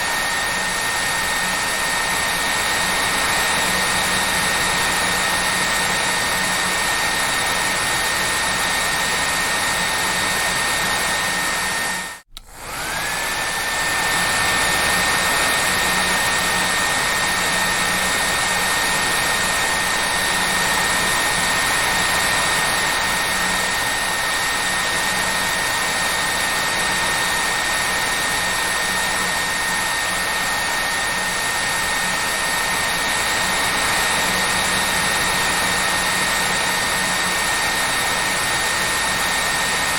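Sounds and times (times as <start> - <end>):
electric hair dryer running: 0.0 - 39.9.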